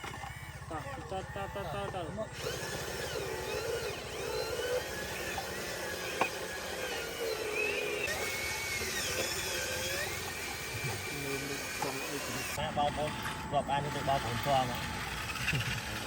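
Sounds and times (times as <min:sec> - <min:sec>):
small electric motors whining: 0:00.0 - 0:16.0.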